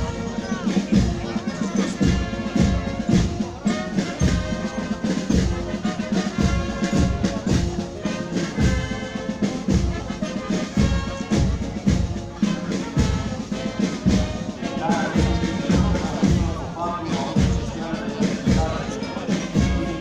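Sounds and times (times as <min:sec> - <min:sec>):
bass drum beat: 0:00.0 - 0:20.0
brass band chords: 0:00.0 - 0:20.0.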